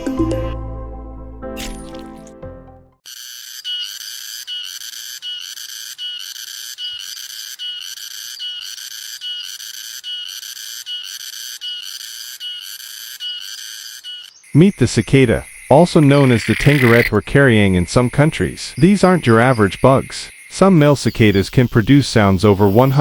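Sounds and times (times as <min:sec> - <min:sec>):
cicada buzzing: 0:03.1 - 0:17.2, 0:18.0 - 0:23.0.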